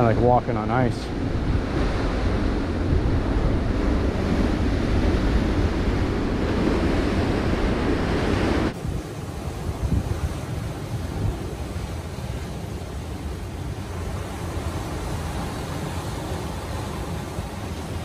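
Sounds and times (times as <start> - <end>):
surf washing over rocks: 0.0 - 18.0
wind buffeting microphone: 0.0 - 18.0.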